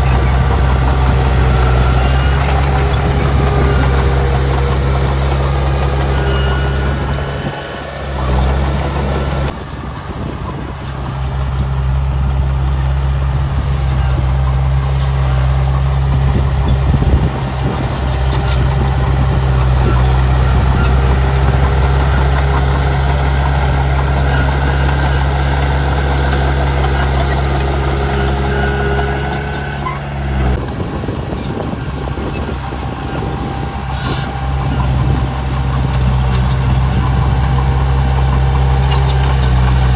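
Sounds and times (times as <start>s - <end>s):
heavy diesel engine droning: 0.0s - 39.9s.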